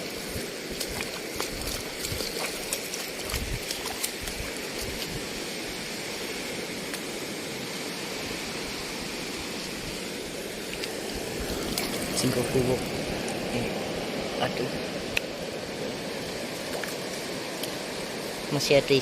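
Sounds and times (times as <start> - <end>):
sea water washing over rocks: 0.0 - 19.0.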